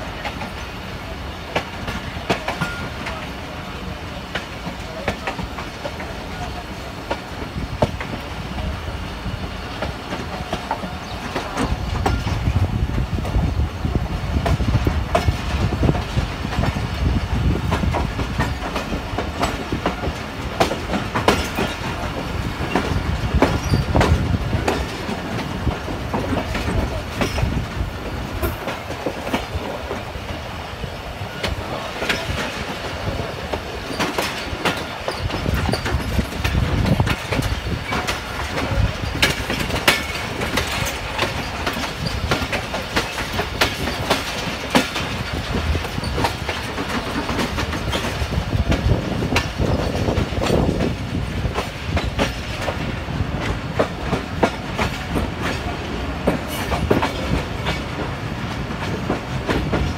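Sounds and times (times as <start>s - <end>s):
train wheels rumbling: 0.0s - 59.9s
wheels clacking over rail joints: 0.1s - 59.9s.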